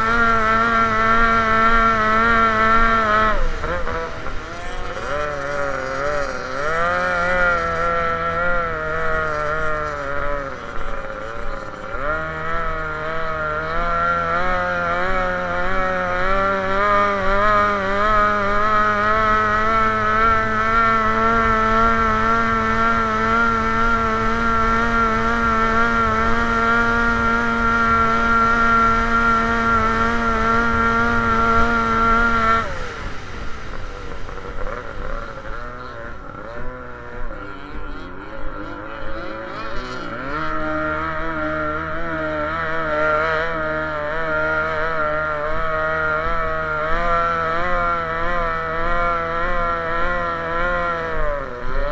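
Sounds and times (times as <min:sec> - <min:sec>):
racing boat engine running hard: 0:00.0 - 0:51.9.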